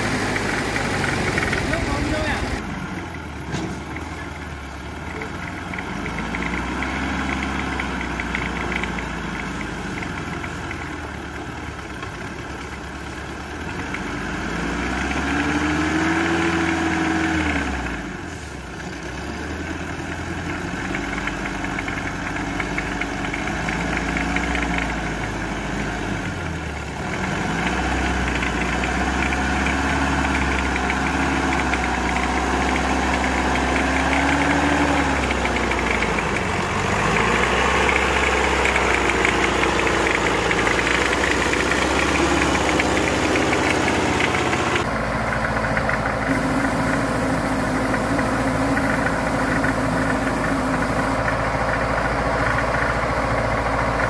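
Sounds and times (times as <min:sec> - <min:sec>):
diesel engine knocking and revving: 0:00.0 - 0:54.0.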